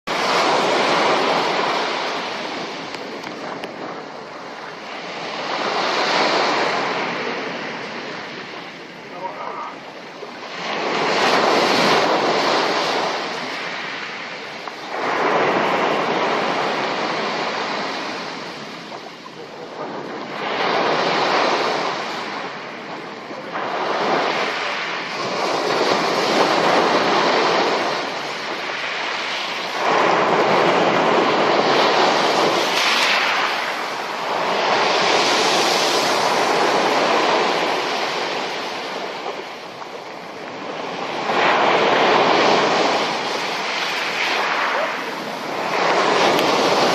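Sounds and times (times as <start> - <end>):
waves breaking on shore: 0.0 - 46.9.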